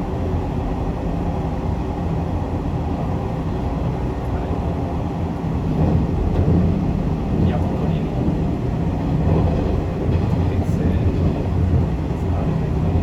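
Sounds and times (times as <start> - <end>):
train rumble on rails: 0.0 - 13.0.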